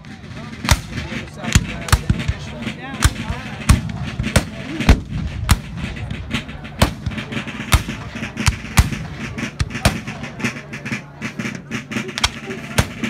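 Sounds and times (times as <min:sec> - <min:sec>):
black-powder gunshots: 0:00.2 - 0:10.2, 0:12.2 - 0:13.0.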